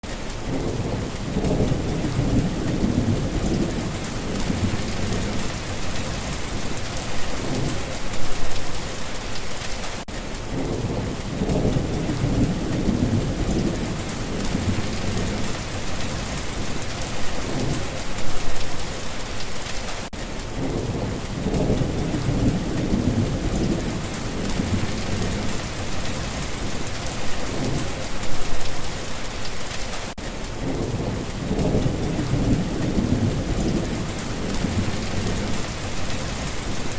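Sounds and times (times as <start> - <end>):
heavy rain hissing: 0.0 - 36.9
thunder rumbling: 0.4 - 9.0, 10.4 - 19.0, 20.5 - 28.9, 30.5 - 36.9.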